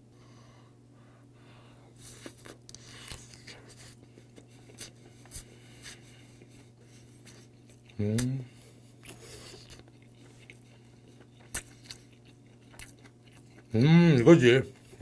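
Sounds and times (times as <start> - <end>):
person chewing food: 1.2 - 15.0.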